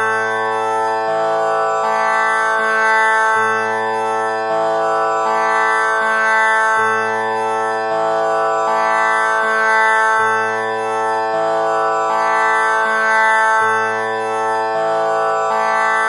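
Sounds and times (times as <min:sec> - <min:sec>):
tanpura drone: 0:00.0 - 0:16.0.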